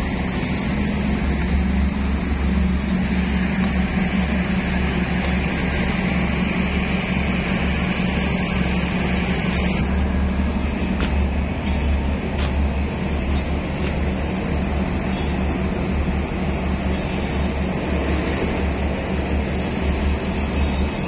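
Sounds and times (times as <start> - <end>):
boat engine drone: 0.0 - 21.0
hiss of water and wind: 0.0 - 21.0.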